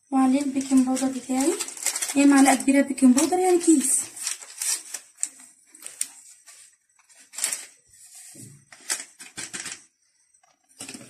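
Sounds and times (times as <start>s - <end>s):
paper sachet crinkling: 0.2s - 9.9s.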